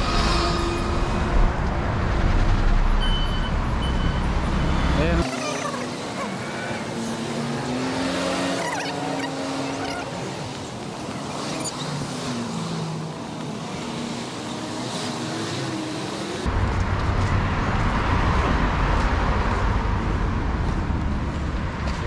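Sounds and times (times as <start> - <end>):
cars passing: 0.0 - 22.0.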